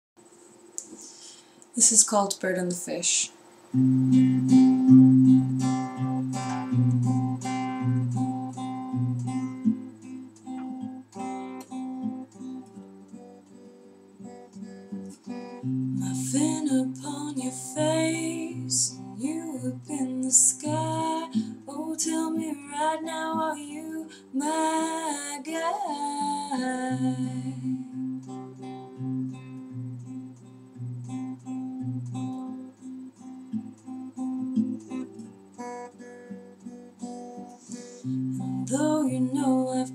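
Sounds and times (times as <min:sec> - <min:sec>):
acoustic guitar strumming: 0:03.7 - 0:39.9.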